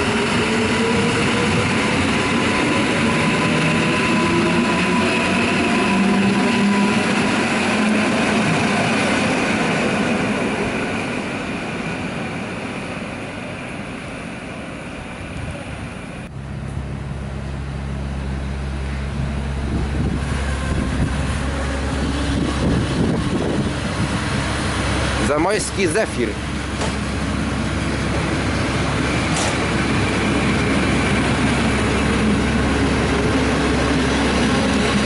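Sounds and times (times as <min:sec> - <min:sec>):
electric train rolling: 0:00.0 - 0:35.0
passenger coaches rolling past: 0:00.0 - 0:35.0.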